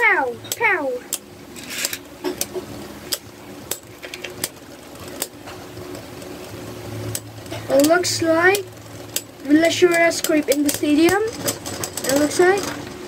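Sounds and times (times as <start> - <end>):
sharp clicks of spinning tops: 0.0 - 13.0
spinning tops whirring: 0.0 - 13.0.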